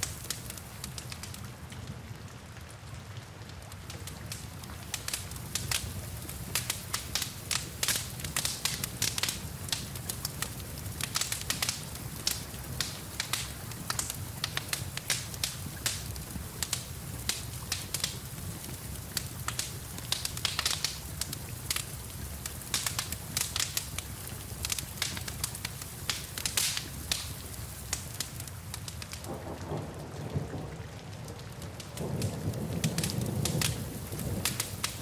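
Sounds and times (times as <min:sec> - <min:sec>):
rain rumbling: 0:00.0 - 0:35.0
wood fire crackling and popping: 0:00.0 - 0:35.0.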